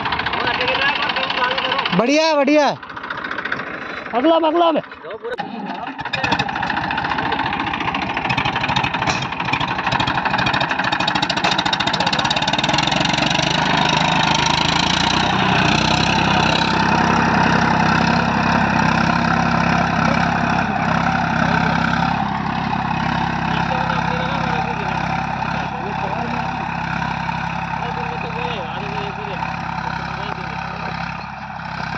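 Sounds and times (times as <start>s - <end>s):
diesel tractor engine under load: 0.0s - 31.9s.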